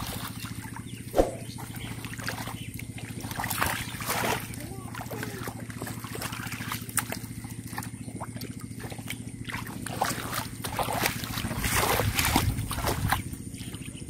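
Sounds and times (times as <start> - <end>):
splashing in shallow water: 0.0 - 14.0
steady low hum: 0.0 - 14.0.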